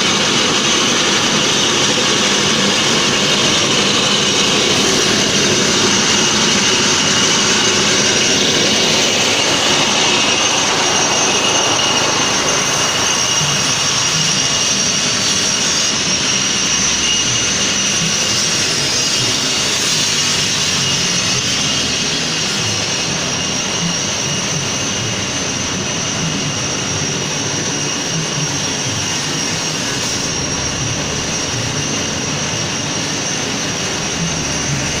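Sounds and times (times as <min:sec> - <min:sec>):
corn sheller running: 0:00.0 - 0:35.0.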